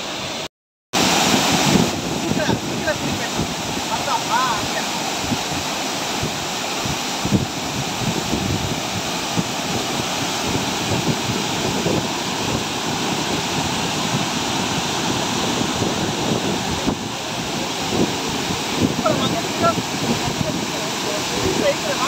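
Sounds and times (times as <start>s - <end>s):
waterfall splashing over rock: 0.0s - 22.0s.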